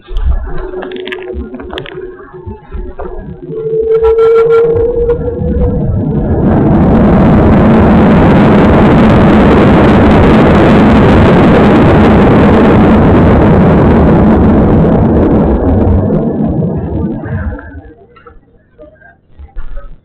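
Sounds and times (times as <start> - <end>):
aircraft cabin roar on landing: 0.0 - 19.7.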